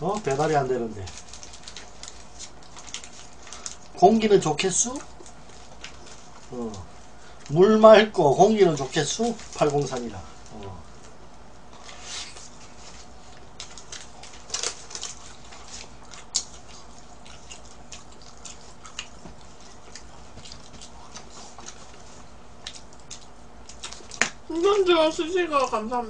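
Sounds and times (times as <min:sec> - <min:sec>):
paper wrappers crinkling: 0:00.0 - 0:26.0.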